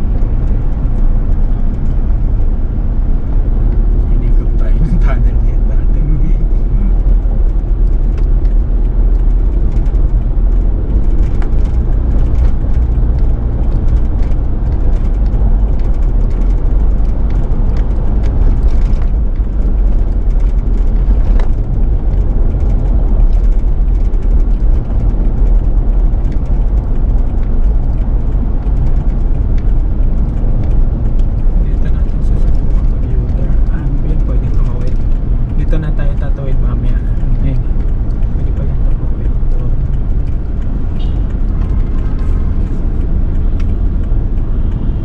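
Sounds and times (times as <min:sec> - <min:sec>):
car road noise from inside: 0:00.0 - 0:45.0.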